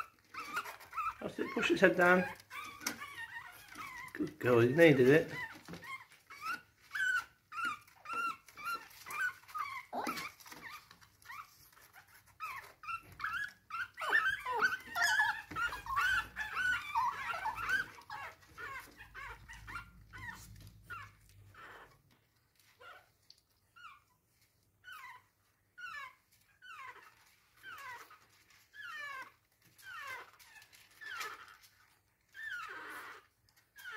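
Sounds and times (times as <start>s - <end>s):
puppy whimpering: 0.0s - 33.9s.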